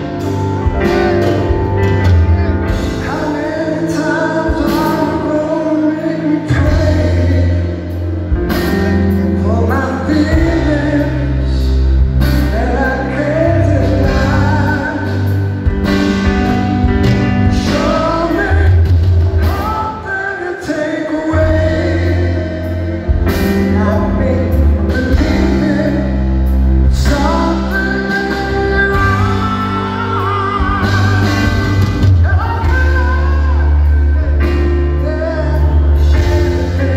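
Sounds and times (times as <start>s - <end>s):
held keyboard chords: 0.0s - 36.9s
male lead vocal singing: 0.0s - 36.9s.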